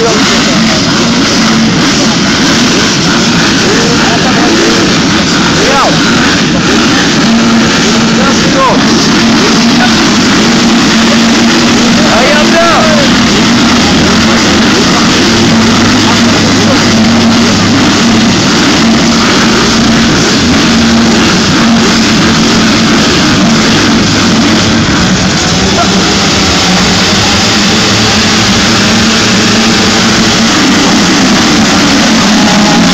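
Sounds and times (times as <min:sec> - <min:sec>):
motocross bikes revving: 0:00.0 - 0:32.9.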